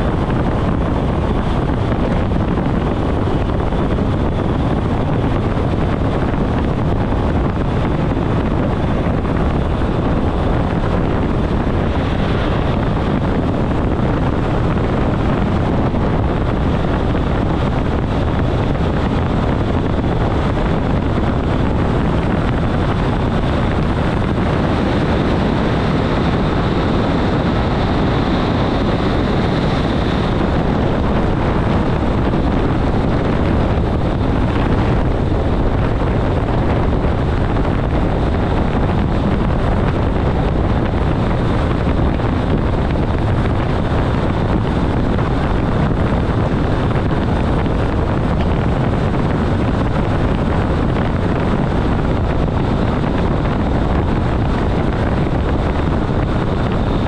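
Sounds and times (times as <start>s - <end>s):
rushing air: 0.0s - 57.0s.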